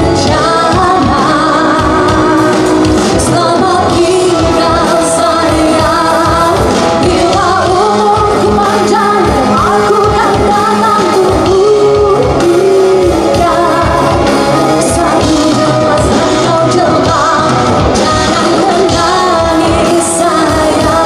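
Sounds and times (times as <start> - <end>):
rock band playing: 0.0 - 21.0
steady drum beat: 0.0 - 21.0
woman singing: 0.0 - 21.0.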